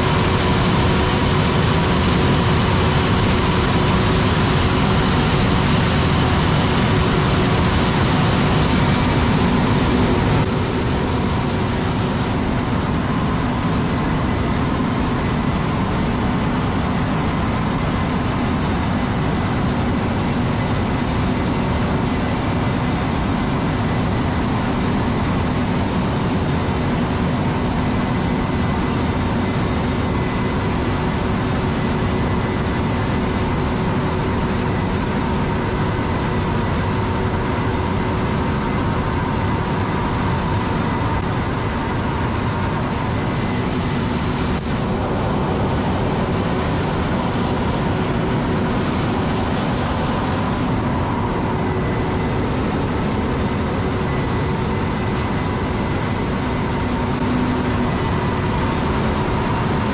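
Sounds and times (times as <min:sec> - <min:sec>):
farm machinery engine hum: 0:00.0 - 0:59.9.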